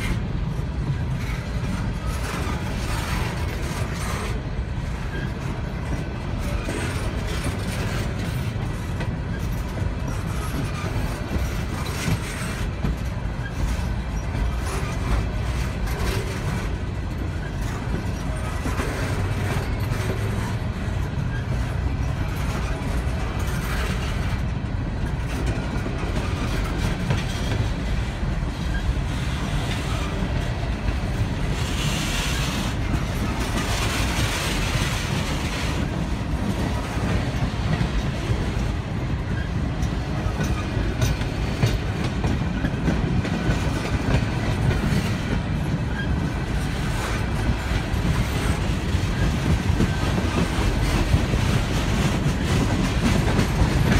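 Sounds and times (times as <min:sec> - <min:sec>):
low rumble of rolling freight cars: 0:00.0 - 0:53.9
steel wheels clicking over rail joints: 0:00.0 - 0:53.9.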